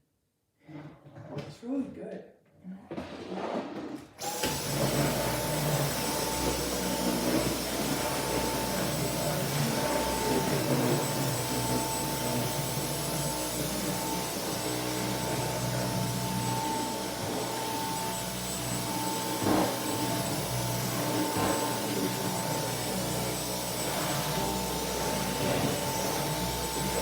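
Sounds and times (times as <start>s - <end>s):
vacuum cleaner running: 4.2s - 27.0s.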